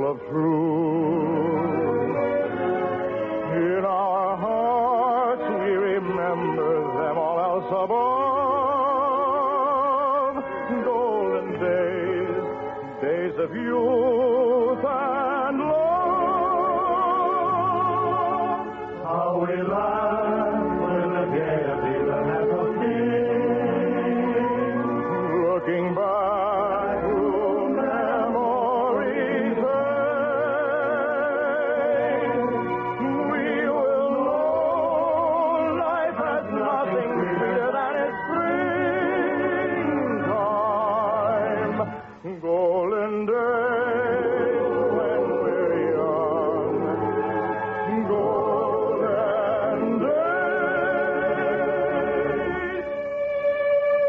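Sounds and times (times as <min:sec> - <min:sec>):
musical accompaniment: 0:00.0 - 0:54.0
operetta singing with vibrato: 0:00.0 - 0:54.0.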